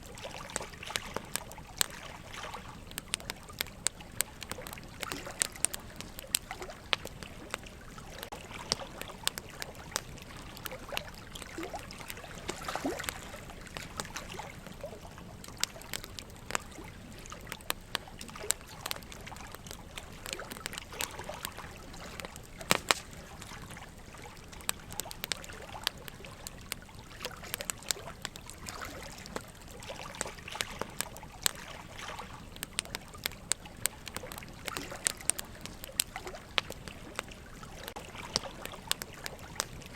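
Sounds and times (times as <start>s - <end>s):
fire crackling and popping: 0.0s - 39.9s
running water trickling: 0.0s - 39.9s.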